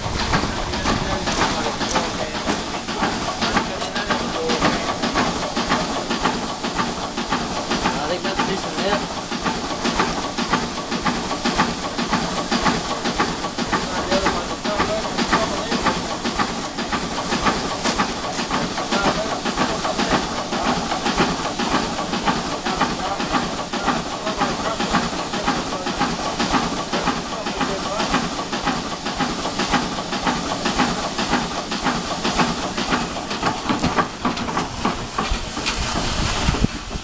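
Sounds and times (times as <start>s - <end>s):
steam engine beat: 0.0s - 37.0s
steam hissing: 0.0s - 37.0s.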